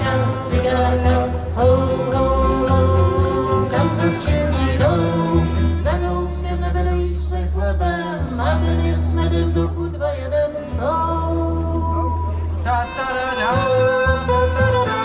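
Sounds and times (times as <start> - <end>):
acoustic folk band playing: 0.0 - 15.0
double bass low notes: 0.0 - 15.0.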